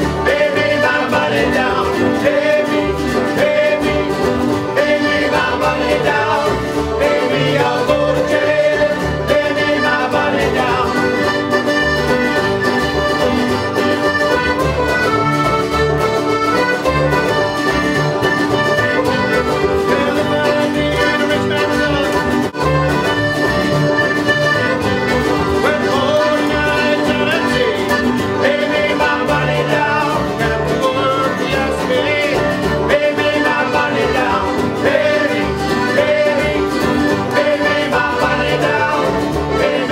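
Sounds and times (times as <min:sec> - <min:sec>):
folk band music: 0:00.0 - 0:39.9.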